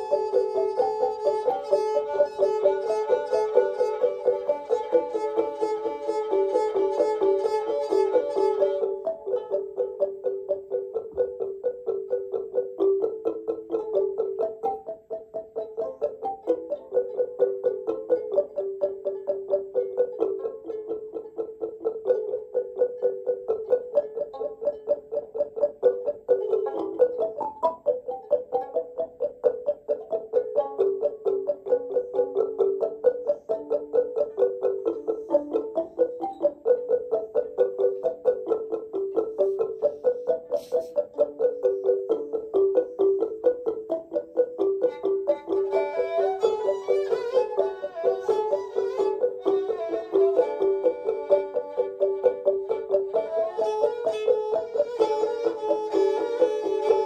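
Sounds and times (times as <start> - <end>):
plucked string instrument melody: 0.0 - 57.0.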